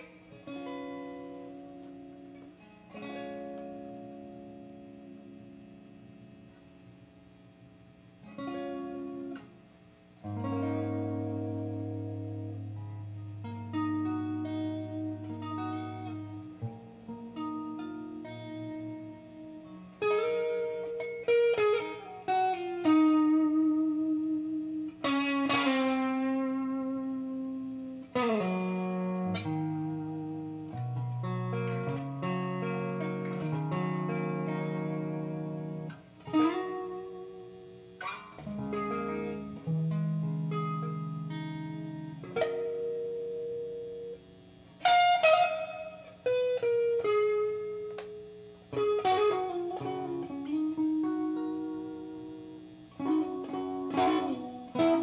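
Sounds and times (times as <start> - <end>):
electric guitar solo: 0.0 - 55.0.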